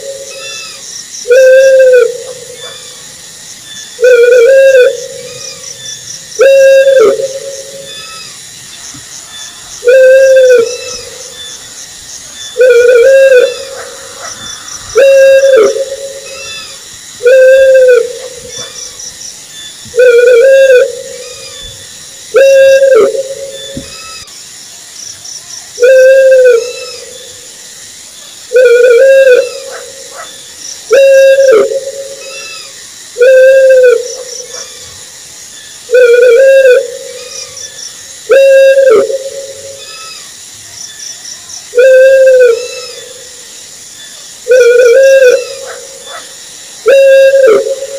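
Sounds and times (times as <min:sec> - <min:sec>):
owl hooting: 0:00.0 - 0:03.0, 0:04.0 - 0:08.4, 0:09.3 - 0:11.7, 0:12.3 - 0:19.2, 0:19.9 - 0:24.3, 0:25.8 - 0:27.4, 0:28.5 - 0:35.0, 0:35.9 - 0:40.3, 0:41.7 - 0:43.4, 0:44.4 - 0:47.9.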